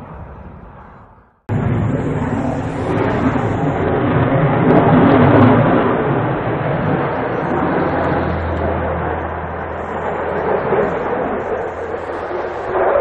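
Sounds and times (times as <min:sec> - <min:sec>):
jet engine roaring overhead: 0:00.0 - 0:13.0.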